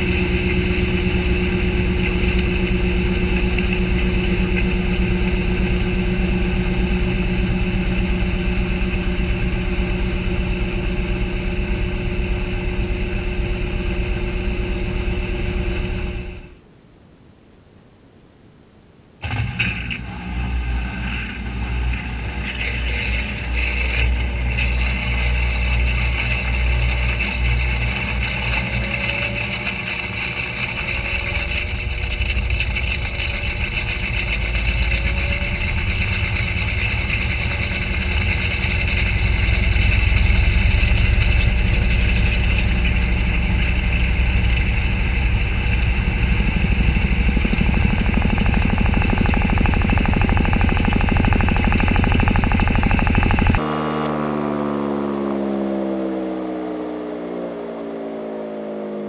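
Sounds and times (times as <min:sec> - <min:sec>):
washer drum spinning: 0:00.0 - 0:16.4, 0:20.9 - 0:54.3
short rising whines: 0:00.0 - 0:16.6, 0:19.2 - 0:59.0.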